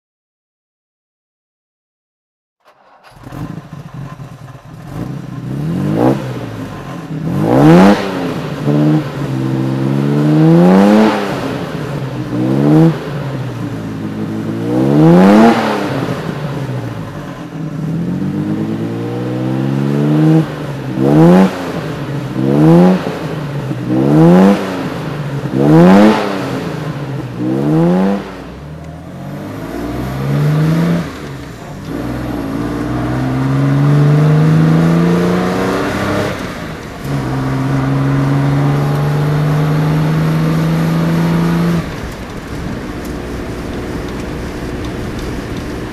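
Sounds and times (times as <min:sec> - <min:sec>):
car engine idling and revving: 0:02.6 - 0:45.9.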